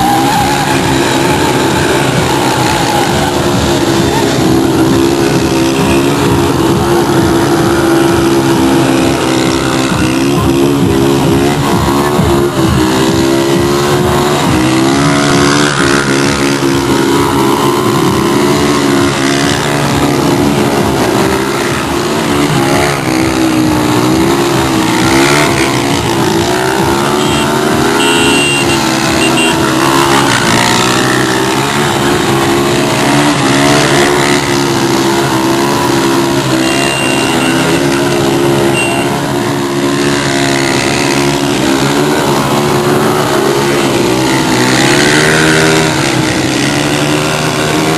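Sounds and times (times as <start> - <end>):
engine running at high revs: 0.0 - 47.9.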